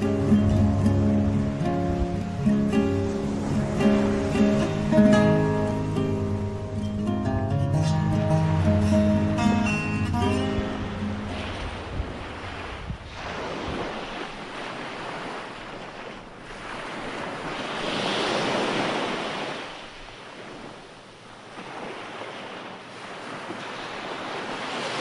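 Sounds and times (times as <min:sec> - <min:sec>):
sea waves breaking on shore: 0:00.0 - 0:25.0.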